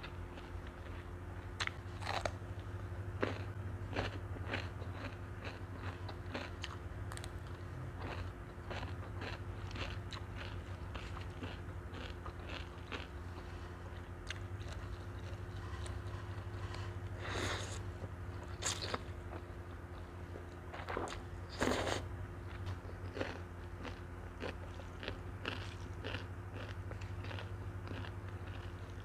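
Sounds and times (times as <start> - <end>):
crunchy chewing: 0.0 - 29.0.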